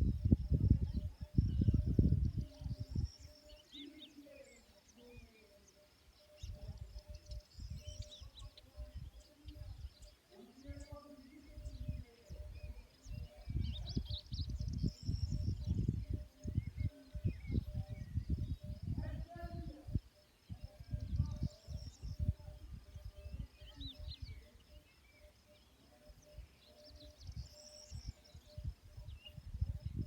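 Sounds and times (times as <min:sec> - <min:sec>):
birds chirping: 0:00.0 - 0:30.0
faint high-pitched hum: 0:00.0 - 0:30.0.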